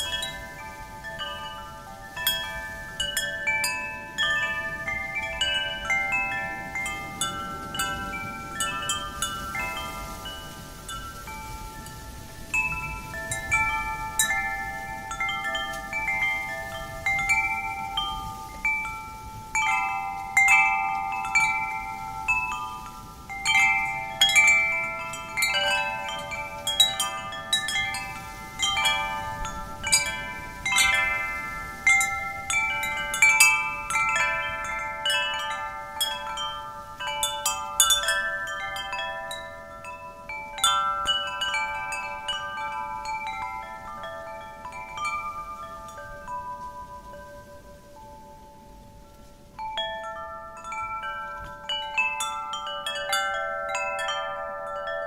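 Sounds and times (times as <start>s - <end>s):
wind chimes ringing: 0.0s - 55.0s.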